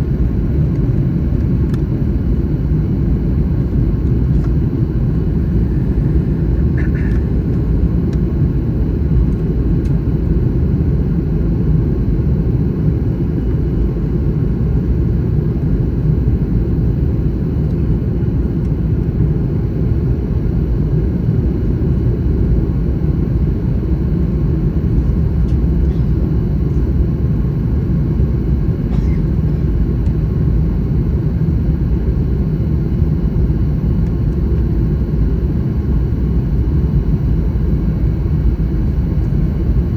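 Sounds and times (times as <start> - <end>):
airliner low rumble: 0.0 - 39.9.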